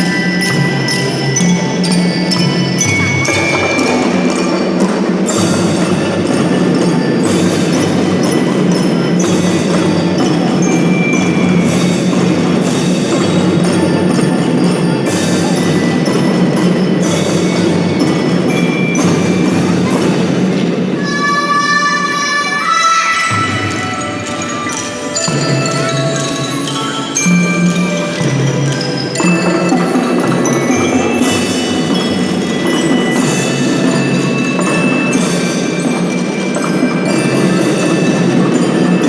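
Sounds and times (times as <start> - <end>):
bell-like glockenspiel melody: 0.0 - 39.0
drums keeping steady beat: 0.0 - 39.0.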